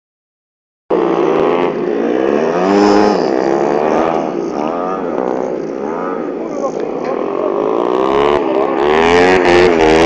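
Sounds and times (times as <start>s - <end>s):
motorcycles racing: 0.9s - 10.0s.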